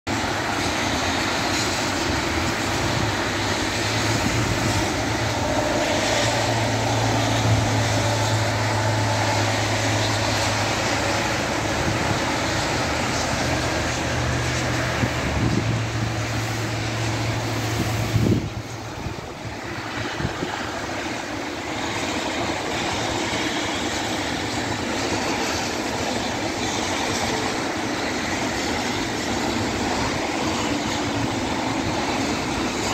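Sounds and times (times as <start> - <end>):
engine drone of passing traffic: 0.1 - 32.9
tyres hissing on wet road: 0.1 - 32.9.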